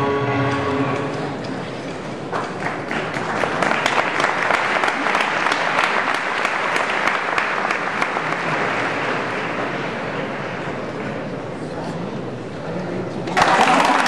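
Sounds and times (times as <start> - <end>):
crowd applauding: 0.6 - 11.6, 13.3 - 14.0.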